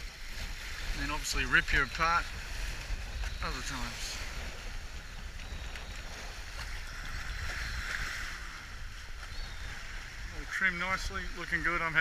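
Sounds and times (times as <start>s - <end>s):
water rushing past a hull: 0.0s - 12.0s
wind rumbling on microphone: 0.0s - 12.0s.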